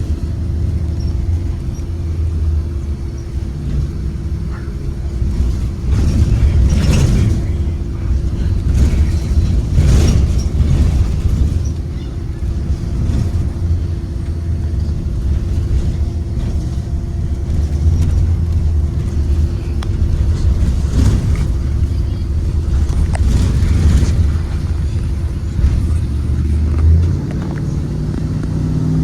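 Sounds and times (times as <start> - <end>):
bus engine rumble: 0.0 - 29.0
road noise: 0.0 - 29.0
steady droning tone: 0.0 - 29.0.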